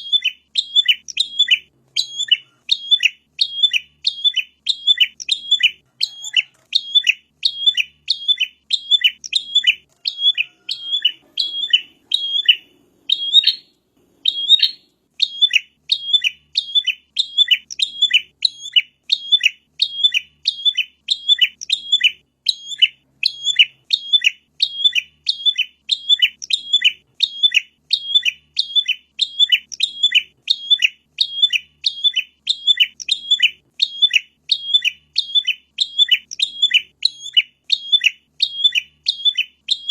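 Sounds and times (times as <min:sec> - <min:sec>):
bird sharp chirps: 0:00.0 - 0:39.9.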